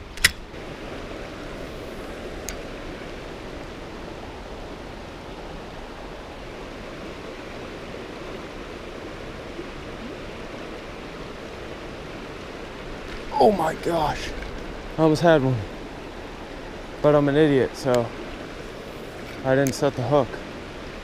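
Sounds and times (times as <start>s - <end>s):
creek water flowing over rocks: 0.4s - 21.0s.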